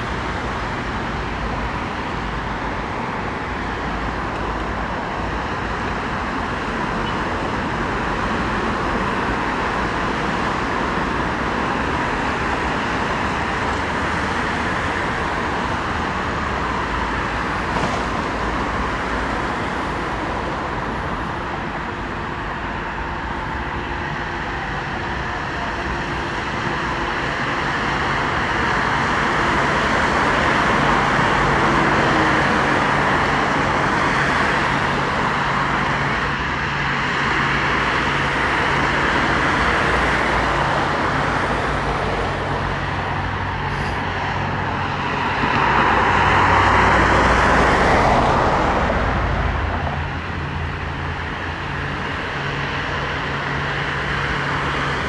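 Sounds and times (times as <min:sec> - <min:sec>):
rushing vehicle noise: 0:00.0 - 0:55.0.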